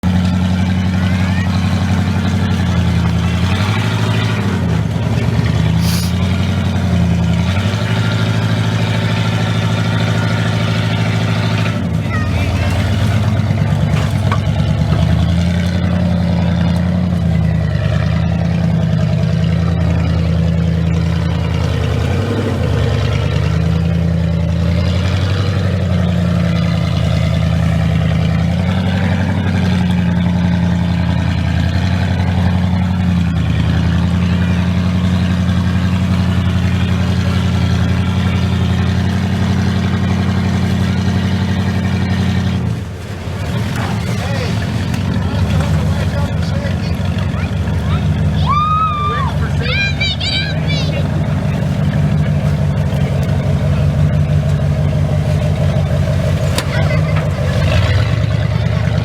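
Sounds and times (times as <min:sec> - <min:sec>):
vehicle engine at low revs: 0:00.0 - 0:59.0.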